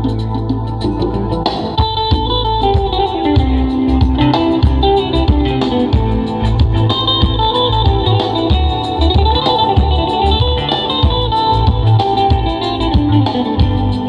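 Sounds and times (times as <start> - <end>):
loud guitar music: 0.0 - 14.0
pulsing bass: 0.0 - 14.0
drum hits: 0.6 - 14.0.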